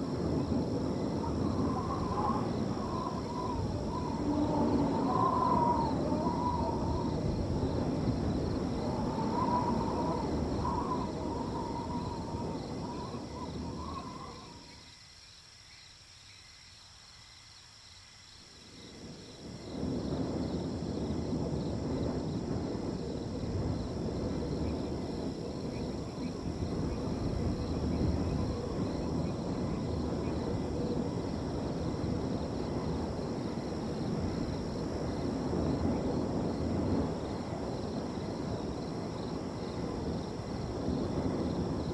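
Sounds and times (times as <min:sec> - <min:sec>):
wind blowing in gusts: 0:00.0 - 0:15.4, 0:17.8 - 0:41.9
crickets trilling: 0:00.0 - 0:41.9.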